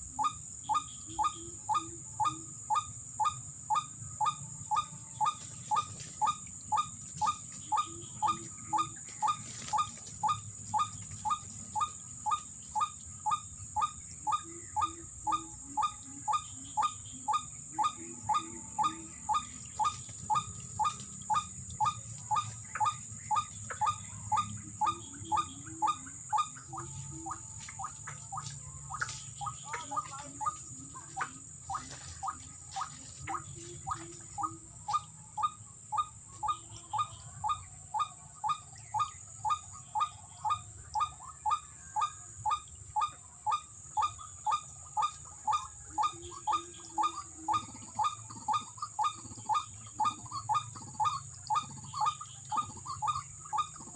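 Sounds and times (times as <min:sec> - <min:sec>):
high insect drone: 0:00.0 - 0:53.9
waterhen calling: 0:00.0 - 0:53.9.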